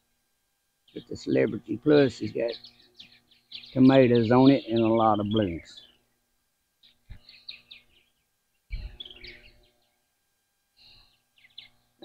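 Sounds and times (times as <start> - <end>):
birds chirping: 0.8 - 10.1, 10.8 - 12.0.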